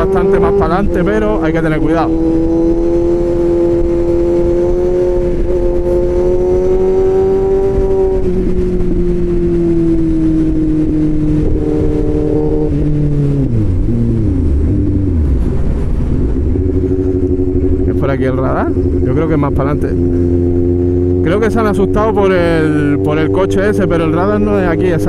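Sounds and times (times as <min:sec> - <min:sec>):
motorcycle engine revving: 0:00.0 - 0:25.0
wind noise: 0:00.0 - 0:25.0.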